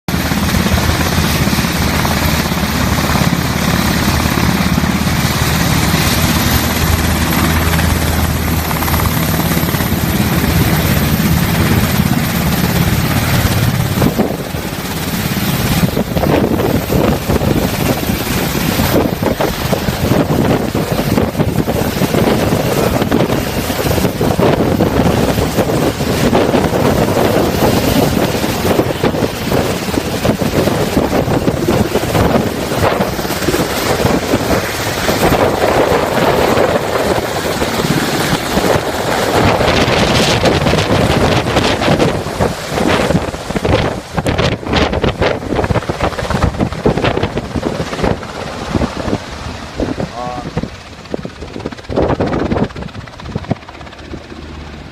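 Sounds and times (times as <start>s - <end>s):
helicopter engines and rotors: 0.1s - 54.9s
wind buffeting microphone: 0.1s - 54.9s.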